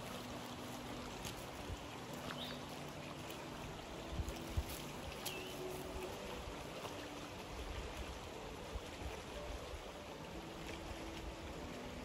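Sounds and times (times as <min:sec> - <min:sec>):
creek flowing over rocks: 0:00.0 - 0:12.0.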